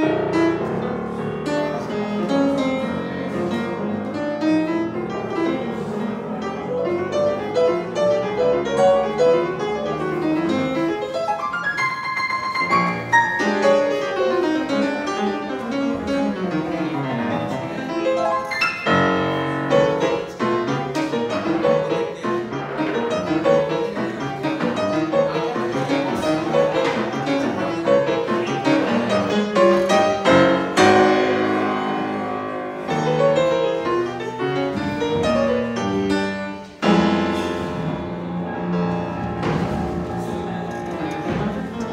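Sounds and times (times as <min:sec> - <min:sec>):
grand piano runs and chords: 0:00.0 - 0:41.9.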